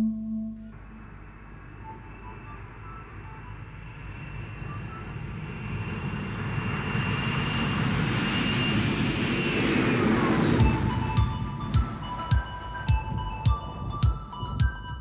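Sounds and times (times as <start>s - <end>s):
high engine whine: 0.0s - 15.0s
jet airliner roar: 0.7s - 14.0s.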